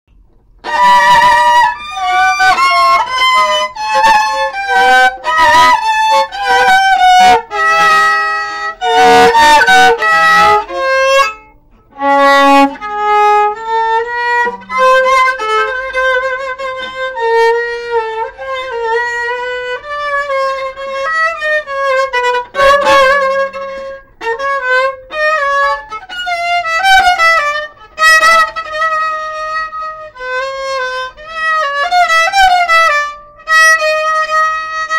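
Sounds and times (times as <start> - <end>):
solo viola melody: 0.5 - 34.9
loud viola chords: 0.6 - 34.9.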